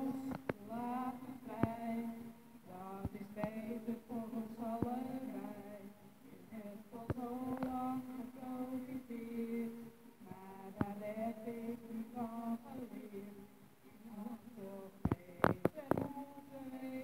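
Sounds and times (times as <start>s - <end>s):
woman singing into microphone: 0.0s - 17.0s.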